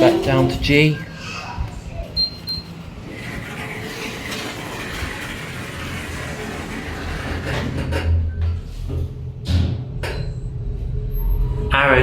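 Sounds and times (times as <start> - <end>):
lift running hum: 0.0 - 12.0.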